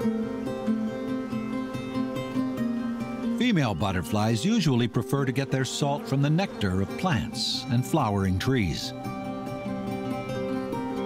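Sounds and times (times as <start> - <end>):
plucked string instrument: 0.0 - 11.0.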